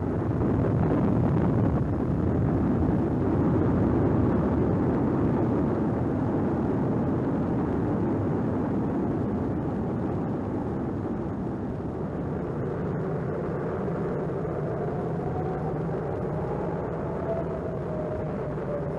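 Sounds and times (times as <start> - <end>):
lava fountain roaring: 0.0 - 18.9.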